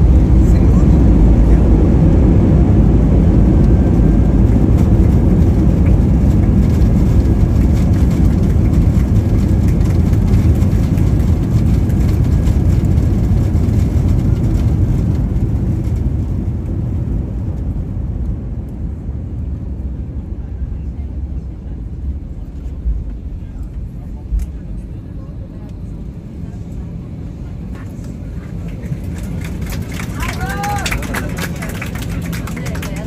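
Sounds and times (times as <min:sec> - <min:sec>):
deep rumble of engines and wheels: 0:00.0 - 0:33.0.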